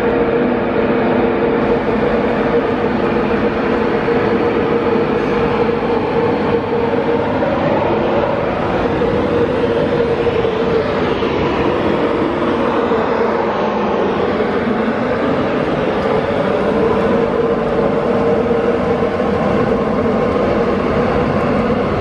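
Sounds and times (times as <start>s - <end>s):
locomotive humming tones: 0.0s - 22.0s
train wheels rumbling on rail: 0.0s - 22.0s.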